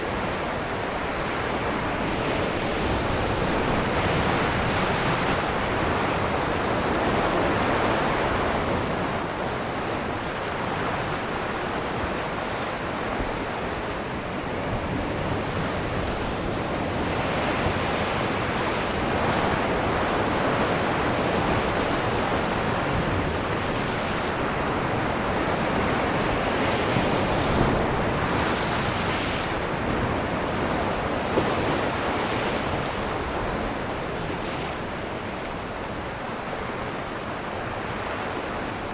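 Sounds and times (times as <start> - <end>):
ocean surf washing onto shore: 0.0 - 38.9.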